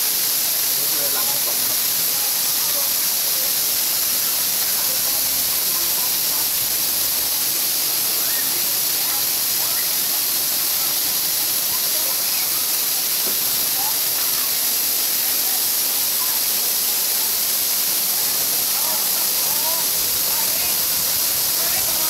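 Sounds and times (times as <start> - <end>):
waterfall rushing: 0.0 - 22.0
water splashing onto rocks: 0.1 - 22.0
faint distant voices: 0.7 - 22.0.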